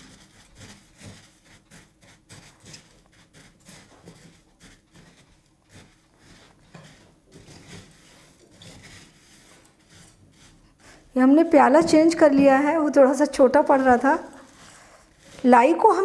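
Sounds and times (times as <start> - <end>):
spatula stirring in glass bowl: 0.0 - 16.0.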